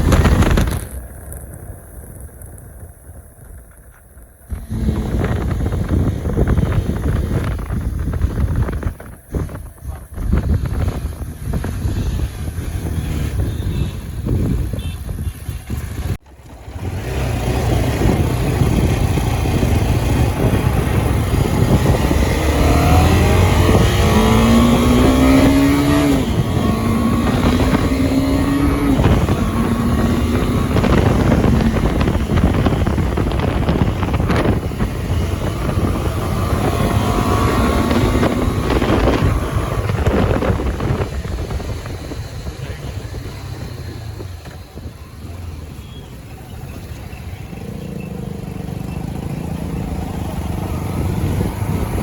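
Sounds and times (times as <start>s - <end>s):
motorcycle engine changing gears: 0.0s - 52.0s.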